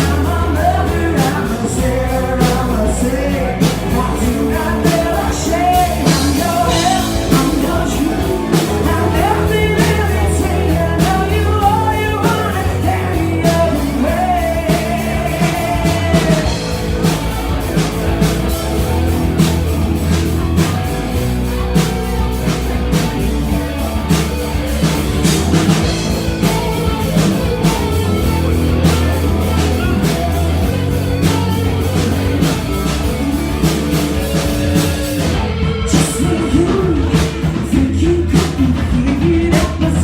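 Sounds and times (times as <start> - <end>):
bass guitar: 0.0 - 40.0
drum kit beat: 0.0 - 40.0
electric guitar: 0.0 - 40.0.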